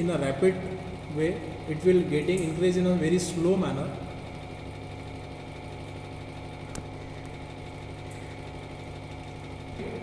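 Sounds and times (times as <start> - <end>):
hydraulic pump humming: 0.0 - 10.0.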